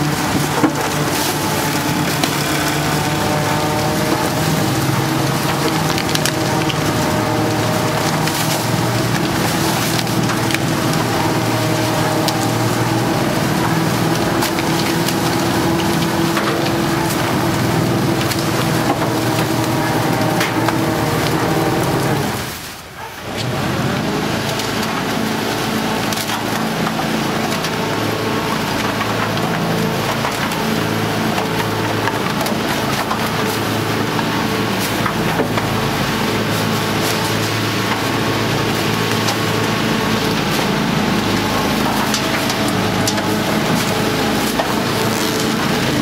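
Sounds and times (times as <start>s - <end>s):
garbage truck mechanical drone: 0.0s - 46.0s
rubbish crackling and crunching: 0.0s - 46.0s.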